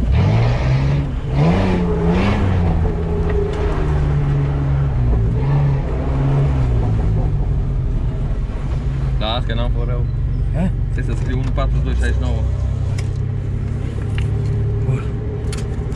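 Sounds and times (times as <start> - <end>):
vehicle engine at low speed: 0.0 - 15.9.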